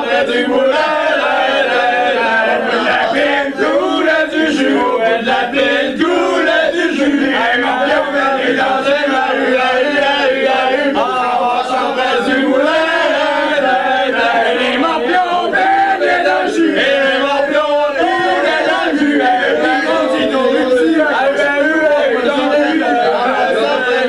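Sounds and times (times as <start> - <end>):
men singing in unison: 0.0 - 24.0.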